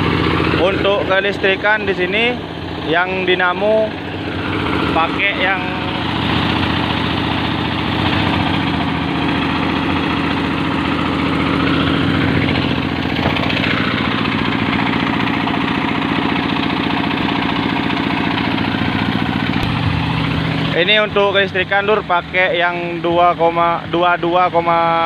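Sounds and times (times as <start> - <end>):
diesel generator engine running: 0.0 - 25.0.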